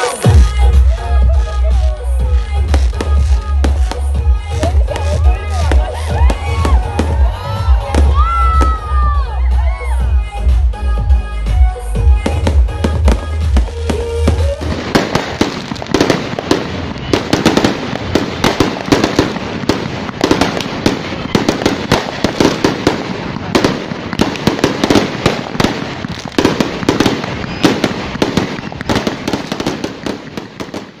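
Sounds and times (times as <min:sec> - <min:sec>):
fireworks bangs and pops: 0:00.0 - 0:09.1, 0:11.4 - 0:31.0
fireworks crackle: 0:00.0 - 0:09.7, 0:12.0 - 0:31.0.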